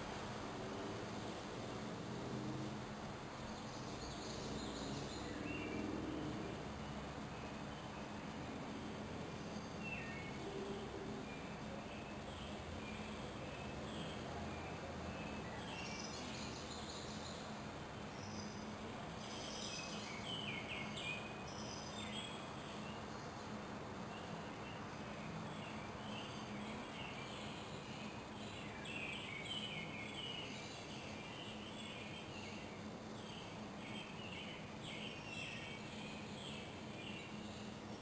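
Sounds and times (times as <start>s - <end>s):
background hiss: 0.0s - 38.0s.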